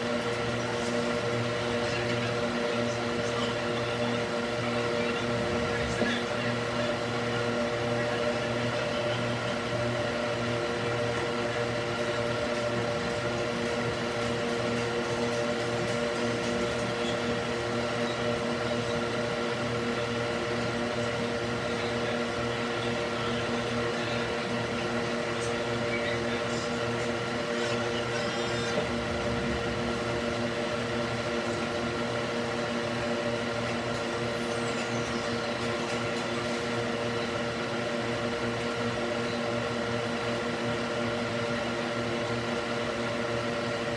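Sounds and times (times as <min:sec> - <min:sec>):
fan air rushing: 0:00.0 - 0:40.7
fan hum: 0:00.0 - 0:43.9.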